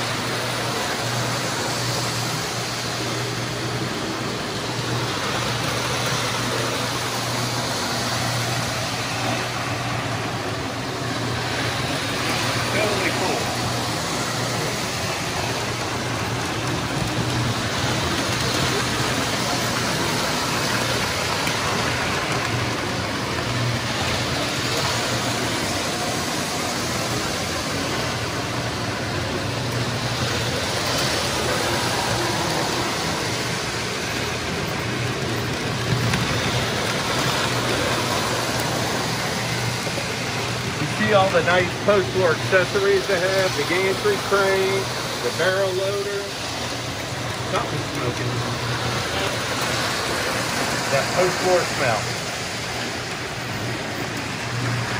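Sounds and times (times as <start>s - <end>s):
toy trains rumbling and rattling: 0.0s - 54.9s.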